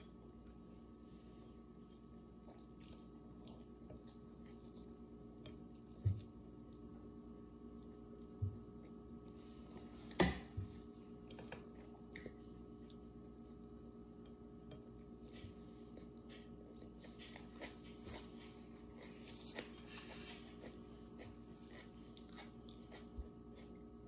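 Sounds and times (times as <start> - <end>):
faint steady hum: 0.0 - 24.0
person chewing food: 1.8 - 9.9, 11.1 - 24.0.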